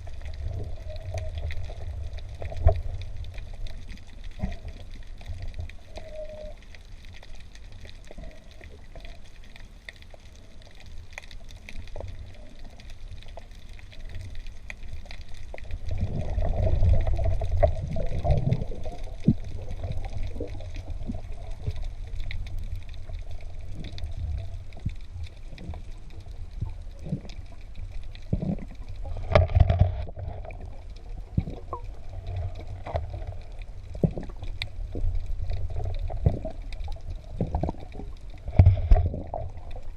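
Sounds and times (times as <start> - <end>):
faint clicks: 0.0 - 39.9
underwater low rumble: 0.0 - 39.9.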